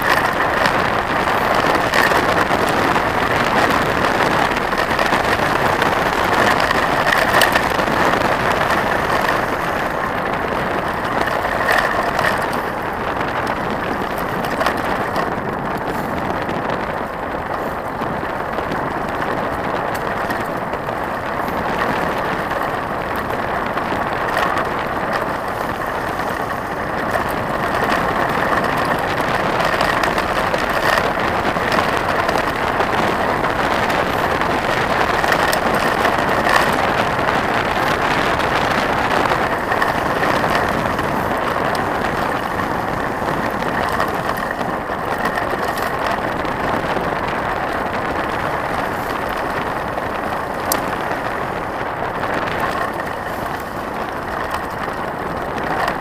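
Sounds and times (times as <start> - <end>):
bike rattles and clicks: 0.0 - 56.0
bike tyres crunching on gravel: 0.0 - 56.0
wind on microphone: 0.0 - 56.0.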